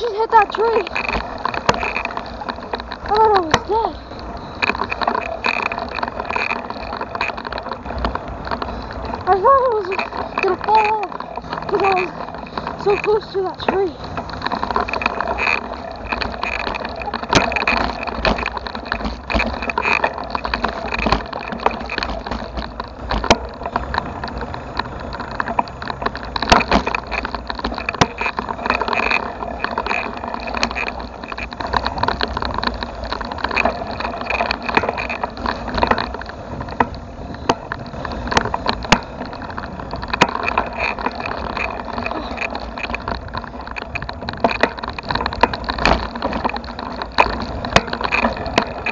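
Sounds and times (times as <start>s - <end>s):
bicycle knocks and rattles: 0.0s - 48.9s
bicycle rolling: 0.0s - 48.9s
wind noise: 0.0s - 48.9s.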